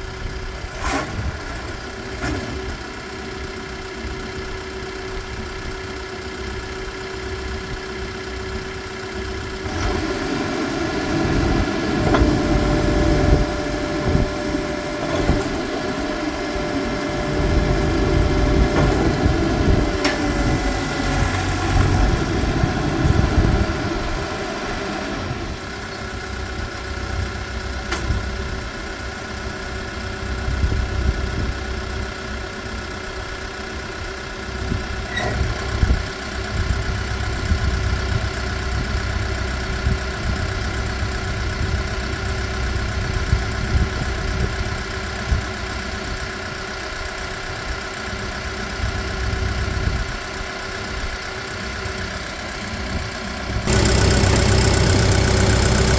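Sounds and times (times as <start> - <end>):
backhoe diesel engine idling: 0.0 - 55.9.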